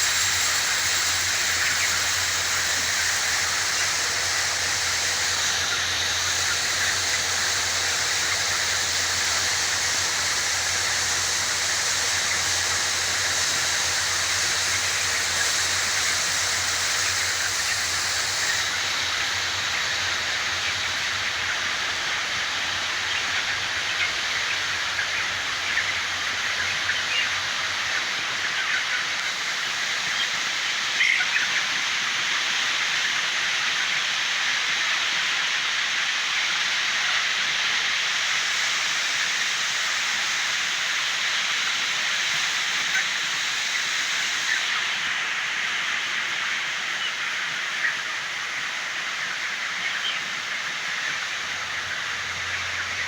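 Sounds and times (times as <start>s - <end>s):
chicken flock hissing din: 0.0s - 53.0s.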